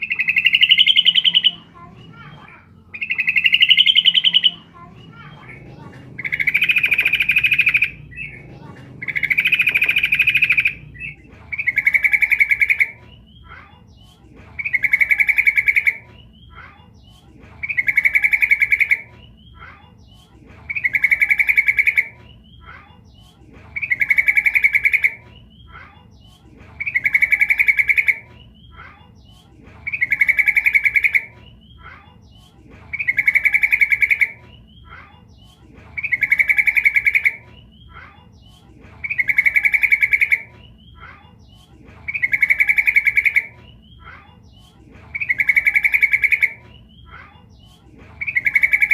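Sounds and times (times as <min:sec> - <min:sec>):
bulbul calling: 0:00.0 - 0:13.6, 0:14.5 - 0:19.7, 0:20.6 - 0:22.8, 0:23.7 - 0:25.8, 0:26.7 - 0:28.9, 0:29.8 - 0:48.9.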